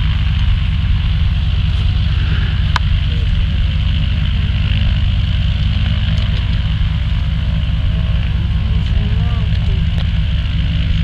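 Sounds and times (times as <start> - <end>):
radial aircraft engine running: 0.0 - 11.0.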